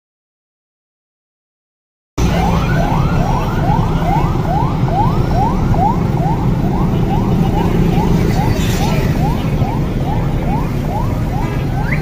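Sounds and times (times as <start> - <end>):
electronic siren yelping: 2.2 - 12.0
low rumble of traffic: 2.2 - 12.0.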